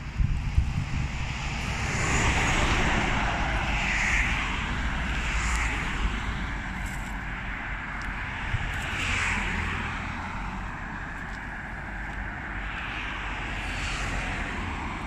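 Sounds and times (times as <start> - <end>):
traffic passing: 0.0 - 15.0.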